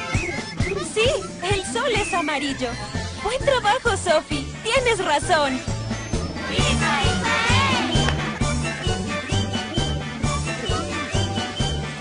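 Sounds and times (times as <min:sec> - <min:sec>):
cheerful instrumental music: 0:00.0 - 0:12.0.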